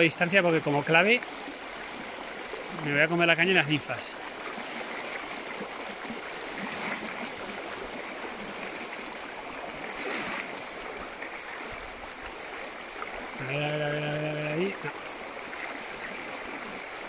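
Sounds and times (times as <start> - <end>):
river water over stones: 0.0 - 17.0.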